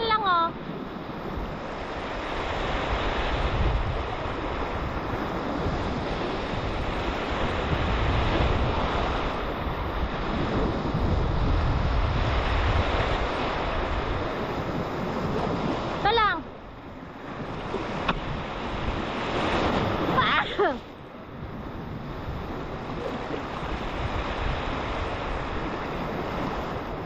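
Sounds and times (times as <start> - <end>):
small waves breaking: 0.0 - 27.0
wind buffeting microphone: 0.0 - 27.0.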